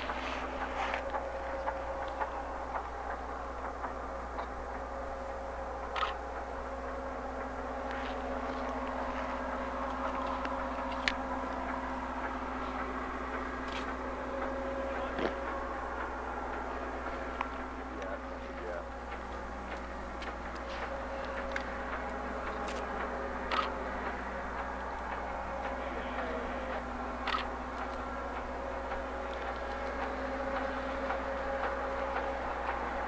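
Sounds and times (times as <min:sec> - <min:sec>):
diesel engines droning: 0:00.0 - 0:33.0.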